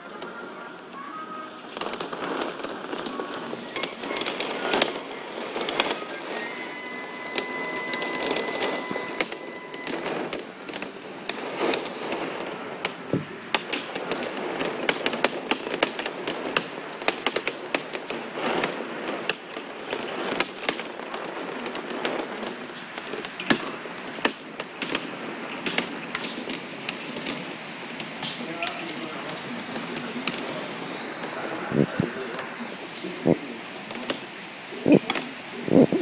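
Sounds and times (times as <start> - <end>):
hail clattering on hard surfaces: 0.0 - 36.0
steady hiss: 0.0 - 36.0.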